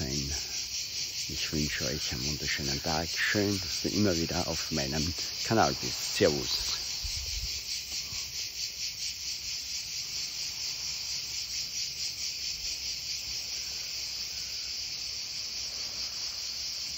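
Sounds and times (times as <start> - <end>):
insects chirring: 0.0 - 16.9.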